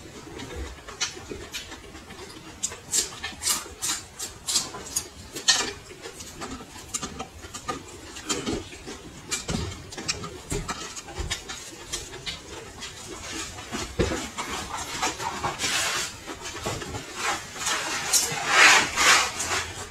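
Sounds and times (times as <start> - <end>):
chewing and crunching peppers: 0.0 - 19.9.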